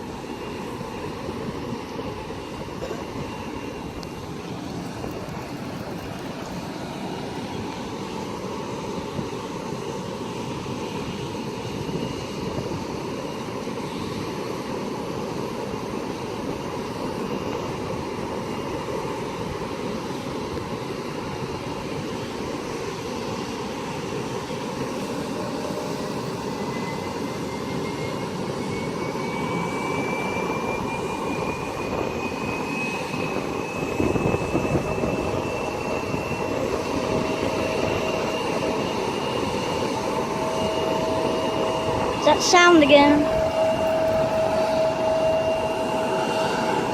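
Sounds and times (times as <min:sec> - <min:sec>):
jet engines whining: 0:00.0 - 0:46.9.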